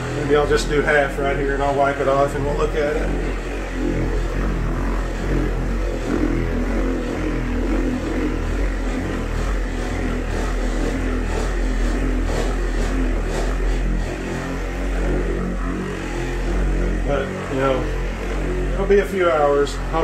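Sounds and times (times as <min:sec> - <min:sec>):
electric buffer running: 0:00.0 - 0:20.0.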